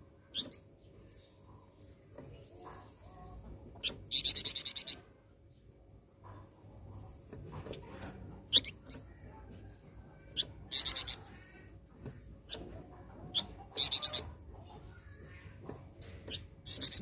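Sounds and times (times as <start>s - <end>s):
songbird chirps and trills: 0.0s - 17.0s.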